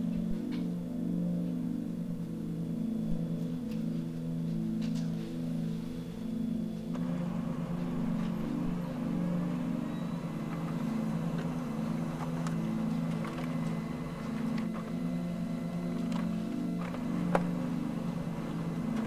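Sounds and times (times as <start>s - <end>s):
low droning ambient music: 0.0s - 19.0s.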